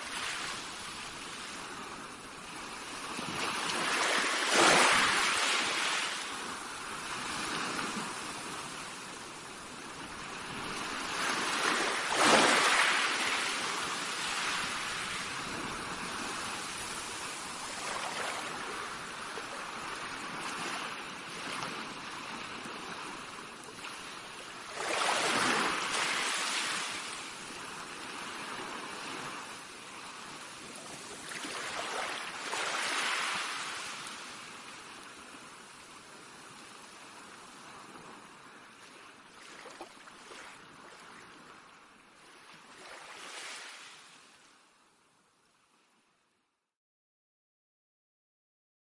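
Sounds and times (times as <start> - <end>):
small waves washing ashore: 0.0 - 46.0.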